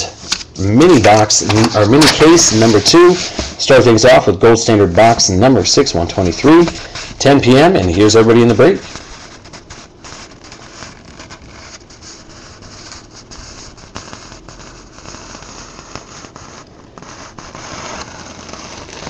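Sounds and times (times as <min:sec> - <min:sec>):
scratching and rustling on tabletop: 0:01.0 - 0:03.6, 0:06.0 - 0:19.0.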